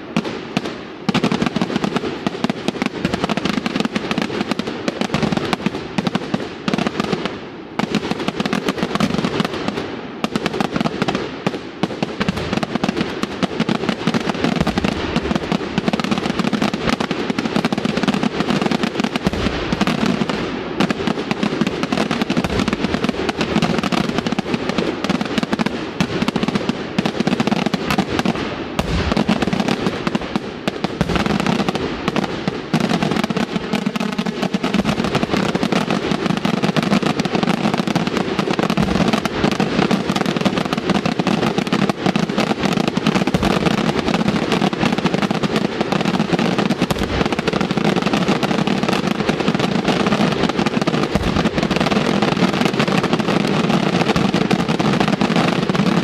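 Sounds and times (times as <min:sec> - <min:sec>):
fireworks bangs and crackles: 0:00.0 - 0:56.0
heavy fireworks booms: 0:00.0 - 0:56.0.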